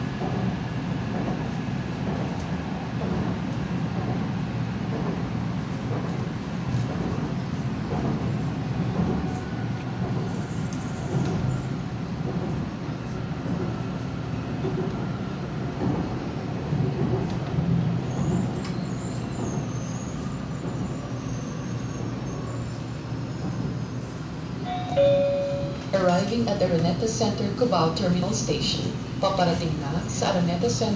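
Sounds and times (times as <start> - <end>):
train wheels and motors rumbling: 0.0 - 30.9.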